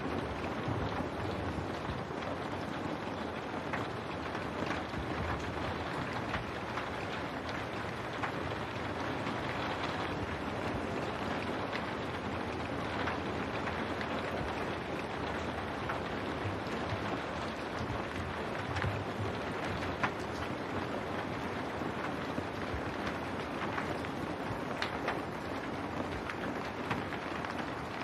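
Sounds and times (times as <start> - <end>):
rain on window glass: 0.0 - 28.0.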